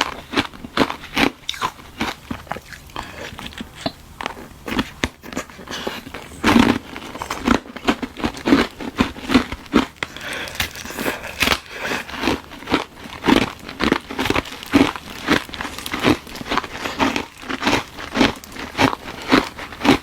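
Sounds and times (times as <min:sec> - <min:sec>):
ice being crunched by teeth: 0:00.0 - 0:20.0.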